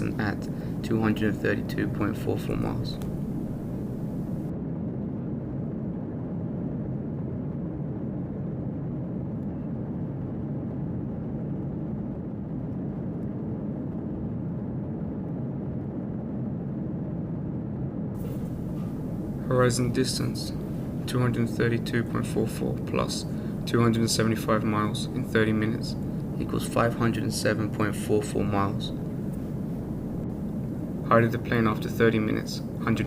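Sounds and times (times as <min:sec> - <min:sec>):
jet airliner cabin drone: 0:00.0 - 0:33.0.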